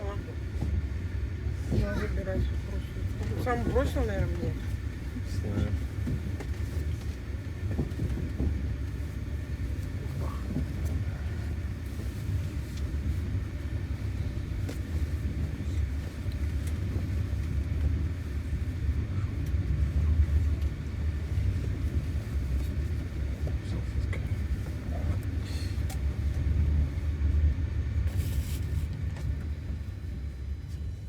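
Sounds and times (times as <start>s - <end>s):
train carriage rumbling on track: 0.0s - 31.0s.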